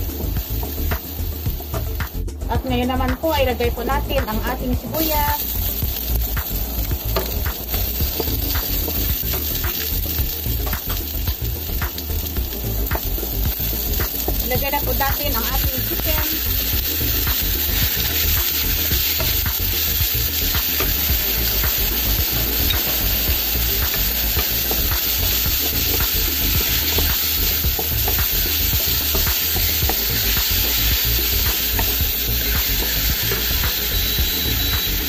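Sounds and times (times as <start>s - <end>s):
chicken sizzling in hot oil: 0.0s - 35.0s.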